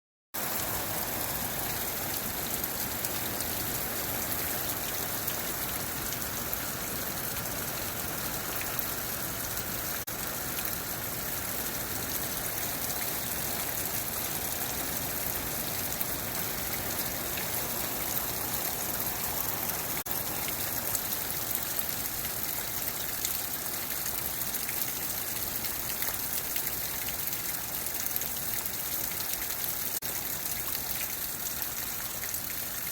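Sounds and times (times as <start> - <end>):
heavy rain: 0.4 - 32.9
running water: 0.4 - 32.9.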